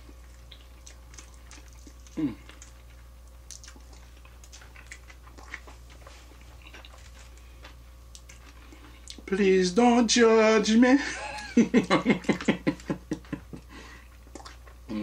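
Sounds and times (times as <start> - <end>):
person chewing food: 0.0 - 9.3, 11.2 - 15.0
faint low hum: 0.0 - 15.0.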